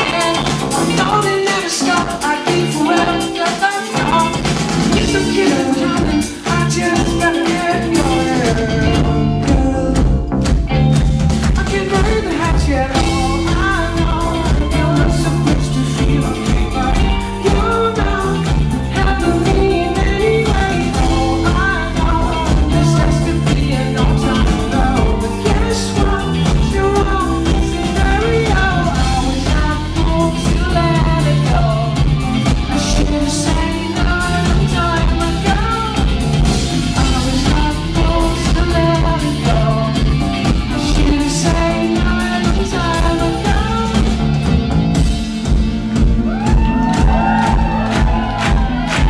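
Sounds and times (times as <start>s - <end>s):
man singing: 0.0s - 44.6s
pop-rock band playing: 0.0s - 49.0s.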